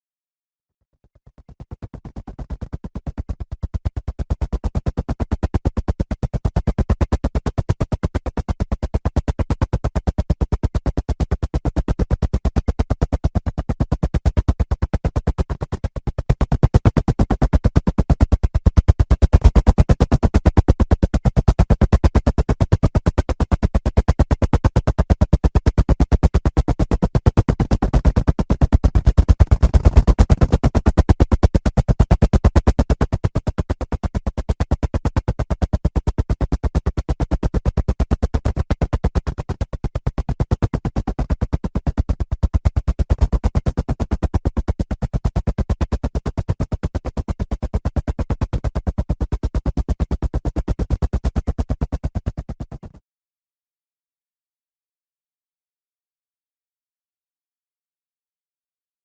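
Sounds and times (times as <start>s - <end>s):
helicopter rotor blades chopping: 1.4s - 52.7s.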